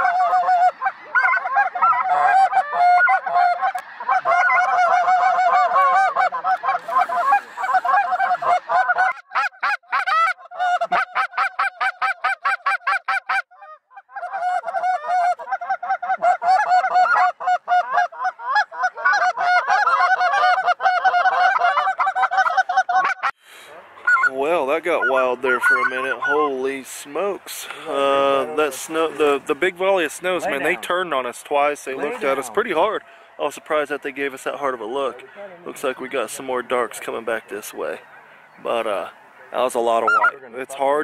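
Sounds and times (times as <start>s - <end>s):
geese calling: 0.0s - 41.0s.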